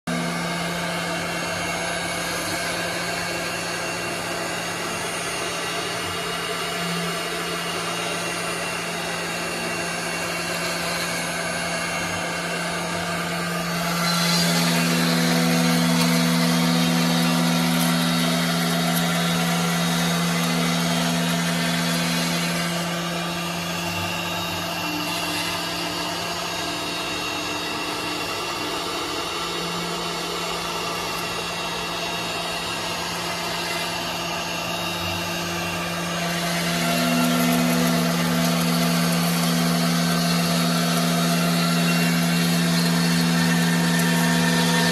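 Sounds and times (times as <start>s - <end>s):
router spindle humming and hissing: 0.0s - 44.9s.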